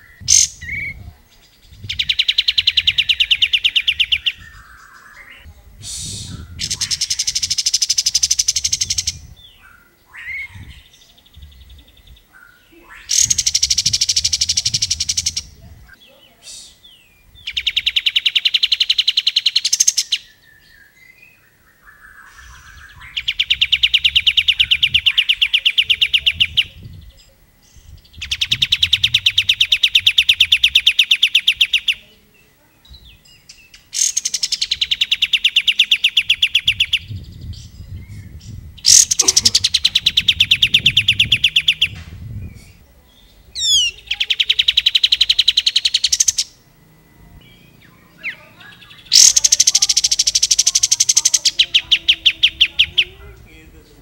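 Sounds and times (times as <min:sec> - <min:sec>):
bird singing rattling notes: 0:00.0 - 0:54.0.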